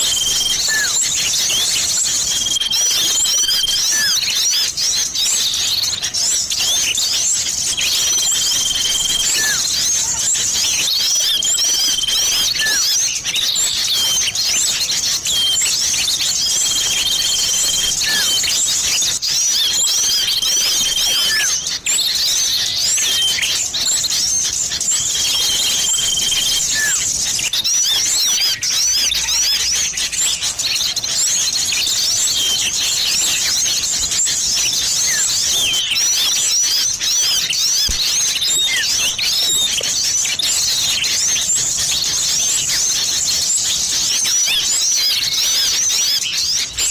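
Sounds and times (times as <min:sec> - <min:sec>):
long level bird whistle: 0:00.0 - 0:46.9
songbirds twittering: 0:00.0 - 0:46.9.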